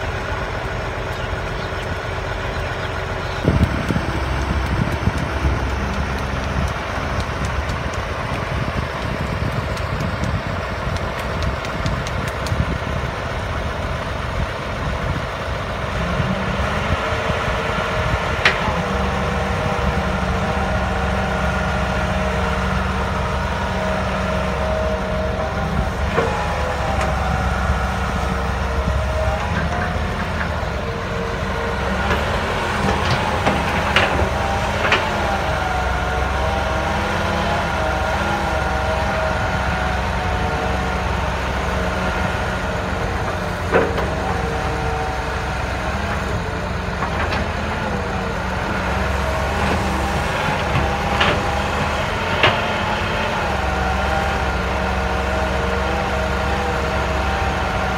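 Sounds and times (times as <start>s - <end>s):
excavator engine drone with whine: 0.0s - 57.9s.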